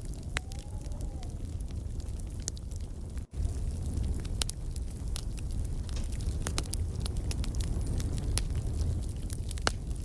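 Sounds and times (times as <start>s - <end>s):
fire popping and snapping: 0.0s - 10.0s
low rumble of burning: 0.0s - 10.0s
wood fire crackling: 0.0s - 10.0s.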